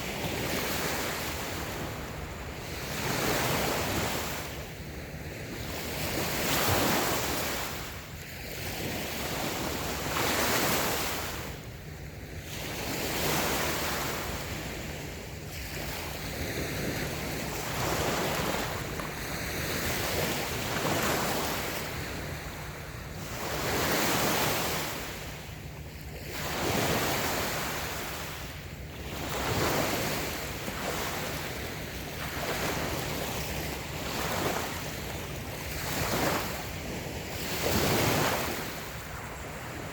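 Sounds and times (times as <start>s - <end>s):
waves washing onto sand: 0.0s - 39.9s.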